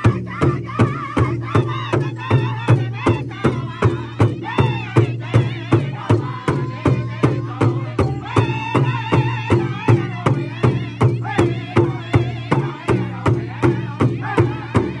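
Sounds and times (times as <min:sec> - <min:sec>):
bass drum beat: 0:00.0 - 0:15.0
group singing in high voices: 0:00.0 - 0:15.0.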